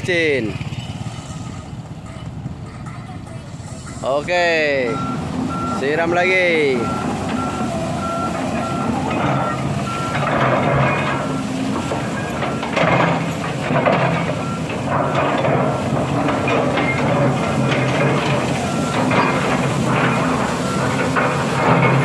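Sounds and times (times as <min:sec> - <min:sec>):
diesel engine running: 0:00.0 - 0:22.0
warning alarm beeps: 0:03.8 - 0:21.8.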